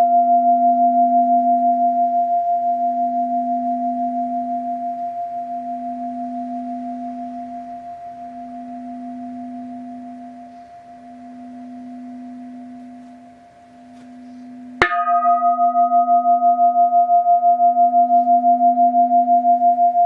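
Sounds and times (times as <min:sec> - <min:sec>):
brass bowl bell ringing: 0:02.8 - 0:20.0
bowl bell strike: 0:02.9 - 0:20.0.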